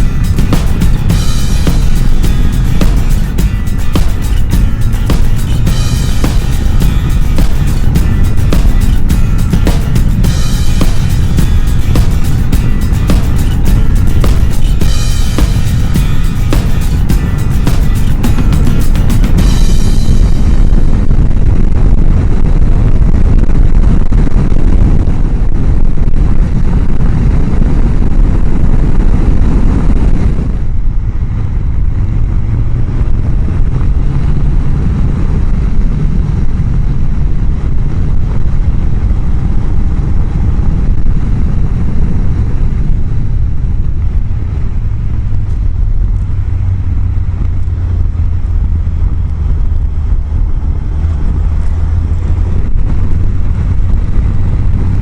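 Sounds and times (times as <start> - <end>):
motorcycle engine drone: 0.0 - 55.0
wind rush on helmet microphone: 0.0 - 55.0.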